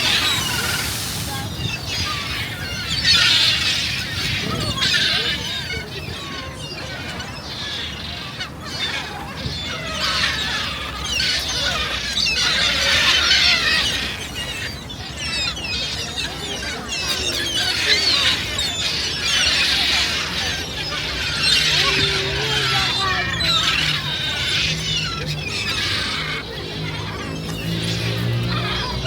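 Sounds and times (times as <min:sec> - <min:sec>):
gulls squealing and squawking: 0:00.0 - 0:29.0.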